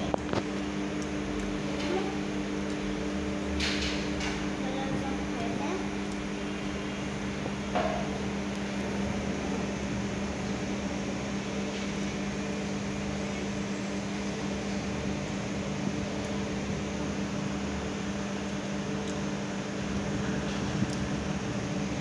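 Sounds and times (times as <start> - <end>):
ventilation hum and hiss: 0.0 - 22.0.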